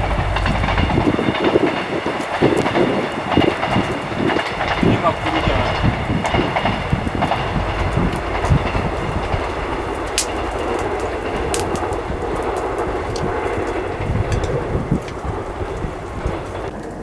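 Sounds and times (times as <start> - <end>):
low rumble: 0.0 - 2.0, 4.6 - 16.7
fire crackling pops: 0.0 - 17.0
wood fire rushing: 0.0 - 17.0.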